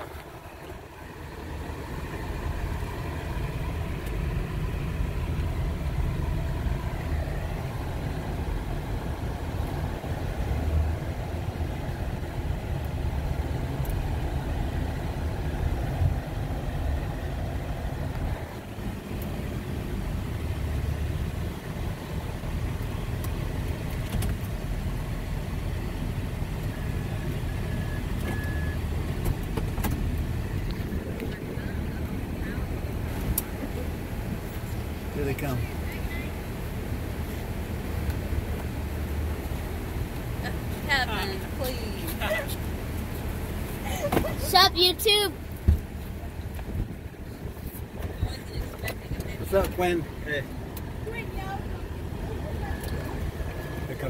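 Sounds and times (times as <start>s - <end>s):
van engine and road noise: 0.0s - 54.0s.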